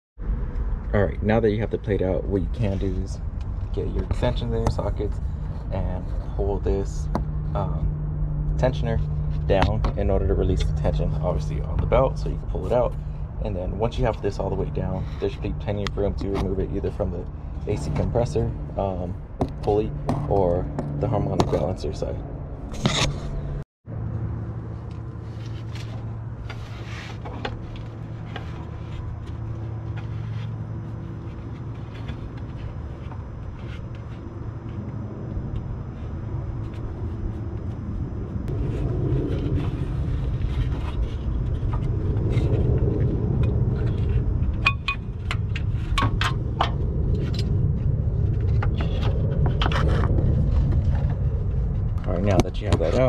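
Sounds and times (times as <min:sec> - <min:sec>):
steady low rumble: 0:00.2 - 0:53.0.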